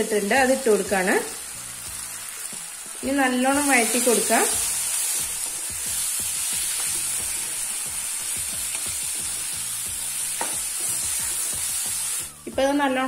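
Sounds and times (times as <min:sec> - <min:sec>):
masala sizzling in a frying pan: 0:00.0 - 0:13.0.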